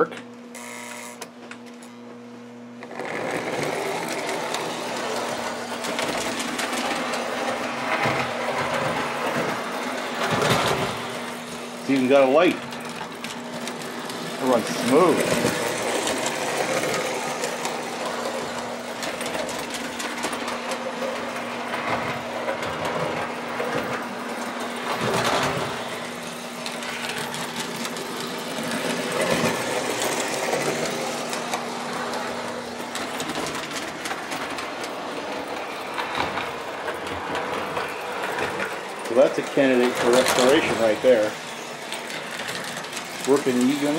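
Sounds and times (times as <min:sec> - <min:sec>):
toy train motor whirring: 0:00.0 - 0:01.3, 0:02.8 - 0:43.9
wheels clicking over rails: 0:02.8 - 0:43.9.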